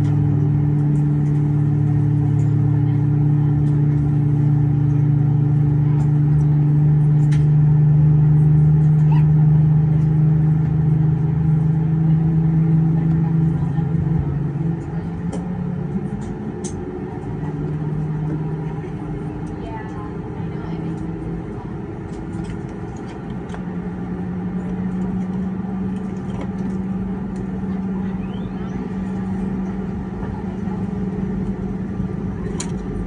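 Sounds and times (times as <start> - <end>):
airplane cabin hum: 0.0 - 33.0.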